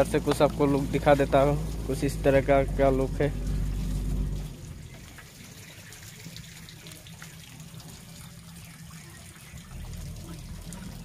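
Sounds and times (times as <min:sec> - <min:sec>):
hose water spraying and splashing: 0:00.0 - 0:11.0.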